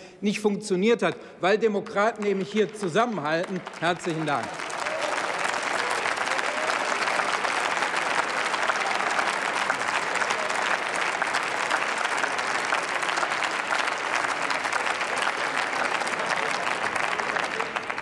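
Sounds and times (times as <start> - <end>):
crowd applause: 2.2 - 18.0.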